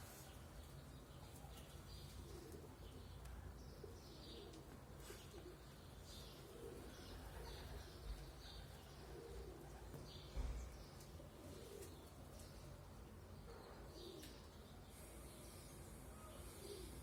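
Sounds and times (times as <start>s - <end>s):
pigeons cooing: 1.7s - 17.0s.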